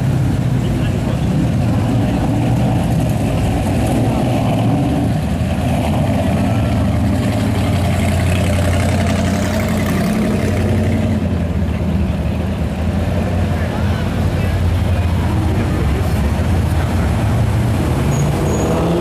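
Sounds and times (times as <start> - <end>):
people's voices: 0.0 - 8.4, 9.5 - 19.0
car engines rumbling: 0.0 - 19.0.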